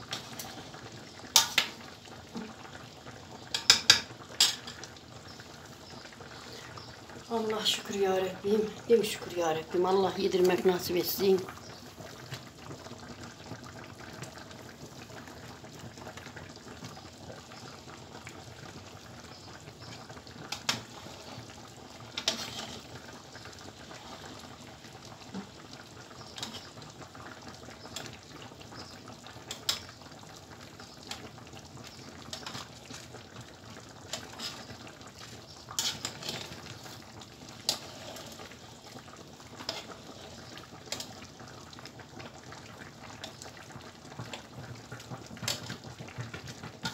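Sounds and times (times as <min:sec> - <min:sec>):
pots boiling and bubbling: 0:00.0 - 0:46.9.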